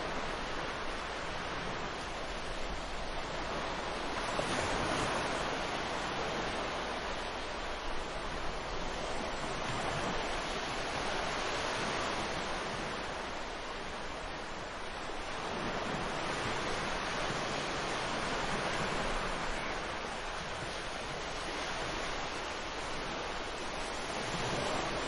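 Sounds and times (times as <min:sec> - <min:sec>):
ocean waves washing: 0:00.0 - 0:25.0.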